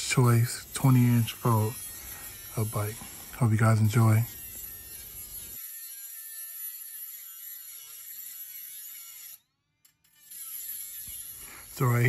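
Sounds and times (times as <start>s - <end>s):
cordless power tool cutting metal: 0.0s - 12.0s.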